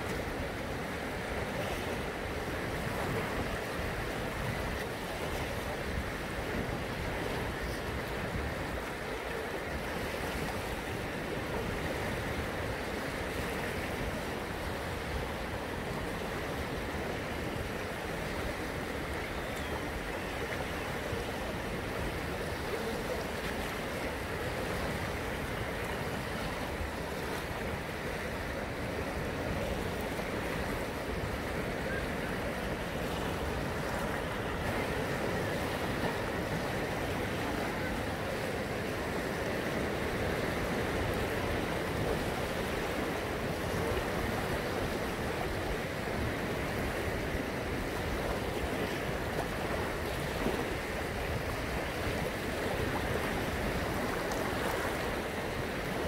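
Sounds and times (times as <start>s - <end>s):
small waves breaking on shore: 0.0s - 56.0s.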